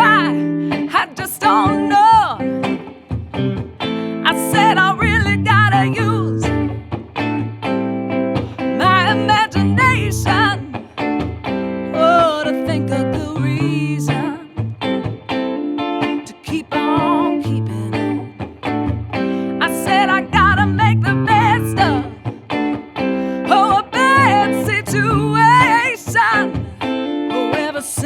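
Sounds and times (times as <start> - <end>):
guitar chords: 0.0 - 28.0
soul song: 0.0 - 28.0.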